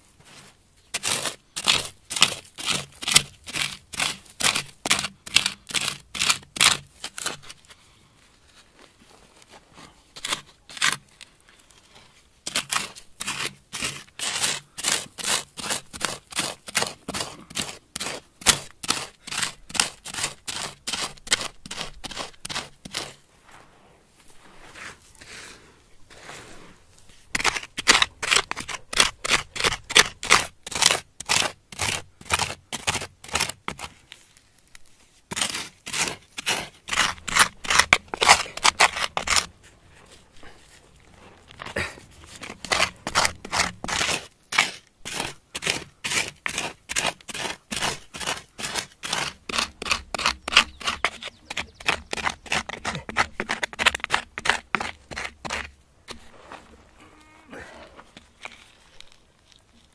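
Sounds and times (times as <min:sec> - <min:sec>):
stone tool scraping gravelly soil: 0:00.0 - 0:57.0, 0:57.6 - 0:59.9.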